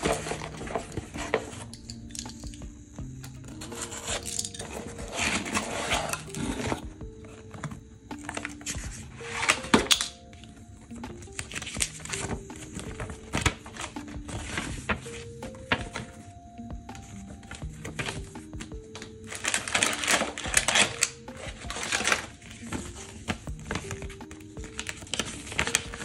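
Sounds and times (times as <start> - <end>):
soft background music: 0.0 - 26.0.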